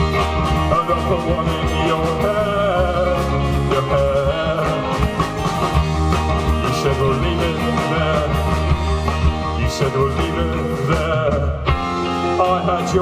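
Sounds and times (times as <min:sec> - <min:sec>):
drum hits: 0:00.0 - 0:12.6
live rock band playing: 0:00.0 - 0:13.0.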